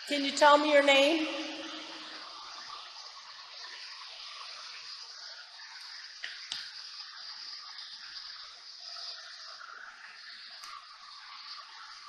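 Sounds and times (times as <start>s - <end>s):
steady recording hiss: 0.0s - 12.0s.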